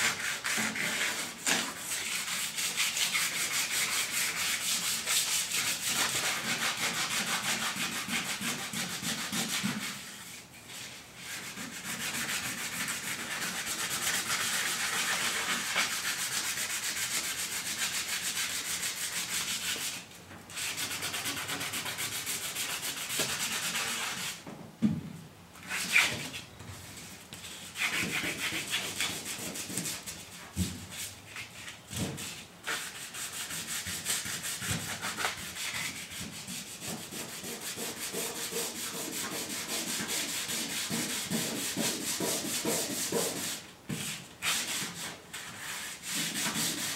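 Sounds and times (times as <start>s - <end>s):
hand sanding scratchy rubbing: 0.0s - 20.0s, 20.6s - 24.4s, 27.4s - 46.9s.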